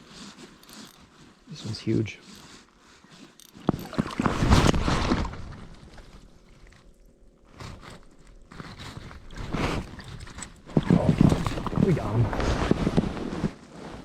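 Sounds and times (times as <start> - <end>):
rustling and scraping: 0.0 - 14.0.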